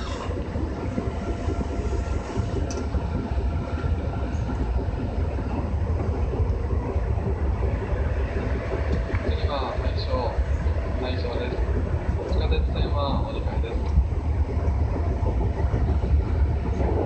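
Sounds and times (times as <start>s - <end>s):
faint steady train whine: 0.0s - 17.0s
train wheels rumbling on rails: 0.0s - 17.0s.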